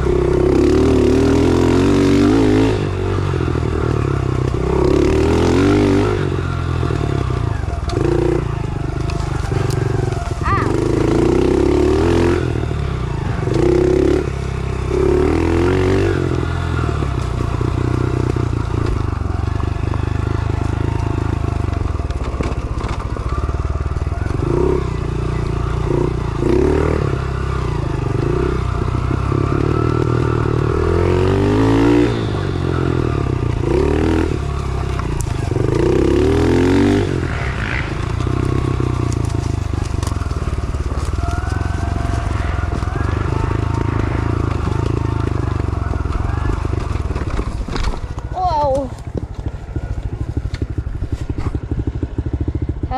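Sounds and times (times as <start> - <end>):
small motorcycle engine revving: 0.0 - 52.9.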